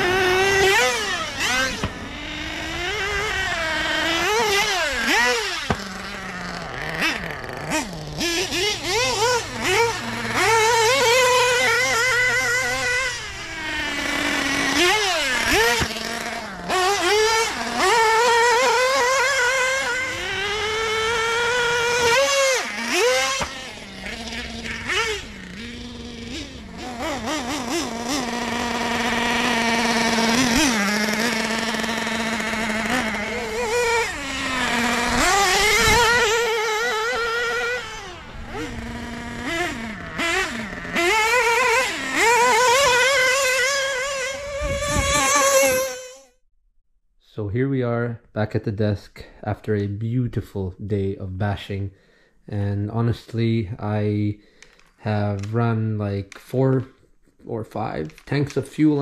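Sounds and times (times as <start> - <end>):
model car engine revving: 0.0 - 46.4, 54.6 - 56.8, 57.8 - 59.0.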